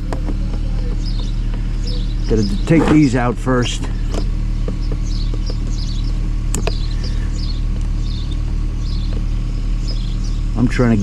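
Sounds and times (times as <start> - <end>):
birds chirping: 0.0 - 11.0
engine running hum: 0.0 - 11.0.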